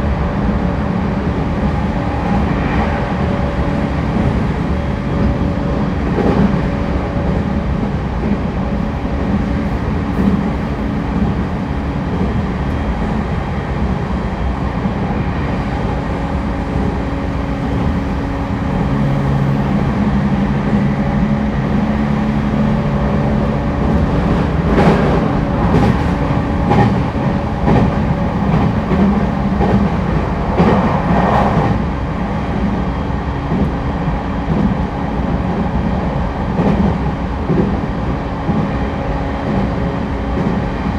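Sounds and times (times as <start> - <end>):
train interior rumble: 0.0 - 40.9.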